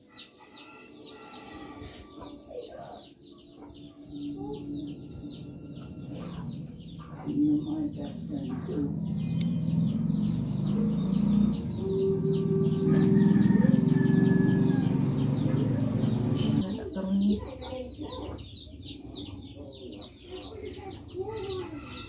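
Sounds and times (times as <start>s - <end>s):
chickens clucking: 0.0s - 22.0s
small birds chirping: 0.0s - 22.0s.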